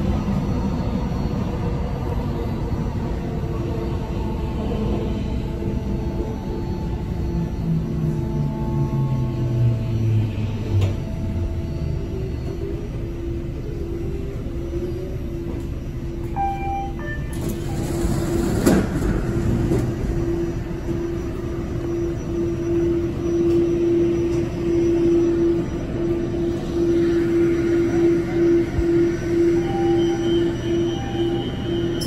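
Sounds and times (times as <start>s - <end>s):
electric train hum and rumble: 0.0s - 32.0s.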